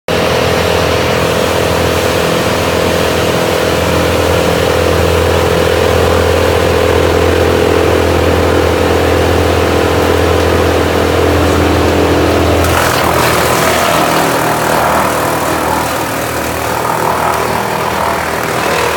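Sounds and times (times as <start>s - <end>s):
tree chipper engine running: 0.1s - 18.9s.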